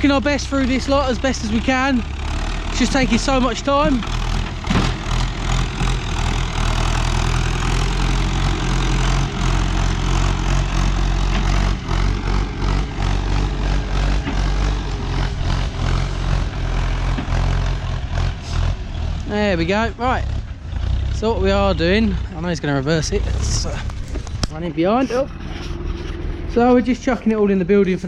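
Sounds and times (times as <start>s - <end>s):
tractor diesel engine running: 0.0s - 28.0s
knocks and rattles: 1.0s - 21.2s, 23.0s - 27.0s.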